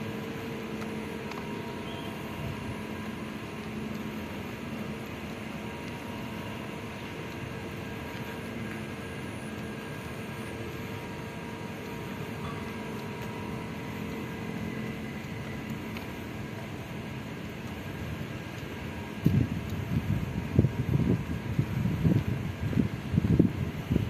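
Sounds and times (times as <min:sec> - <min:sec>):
faint steady tones: 0:00.0 - 0:24.0
low city rumble: 0:00.0 - 0:24.0.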